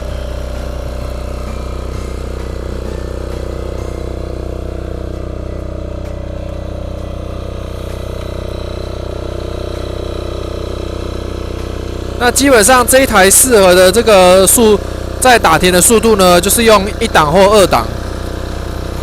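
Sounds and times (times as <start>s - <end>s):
cultivator engine running: 0.0s - 19.0s.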